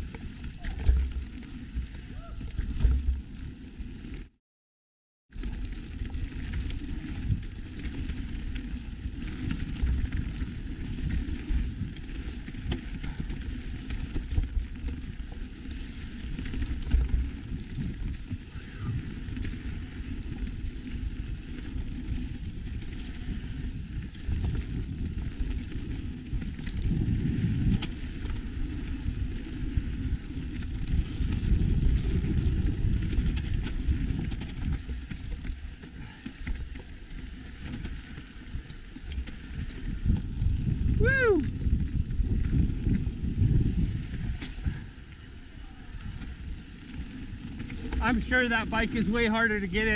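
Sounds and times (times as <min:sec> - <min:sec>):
bike rattling: 0:00.0 - 0:04.3, 0:05.3 - 0:49.9
bike tyres rolling on dirt: 0:00.0 - 0:04.4, 0:05.3 - 0:49.9.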